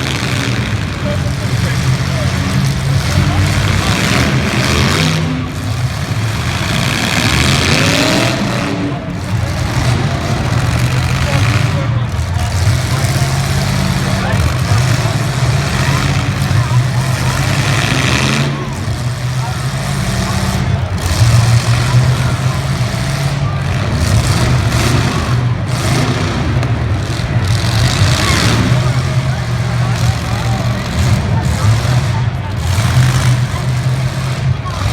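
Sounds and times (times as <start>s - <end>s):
car engines revving: 0.0s - 34.9s.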